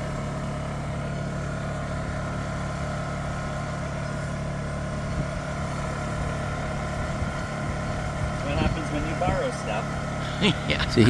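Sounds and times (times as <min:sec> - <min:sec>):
portable generator engine humming: 0:00.0 - 0:11.0.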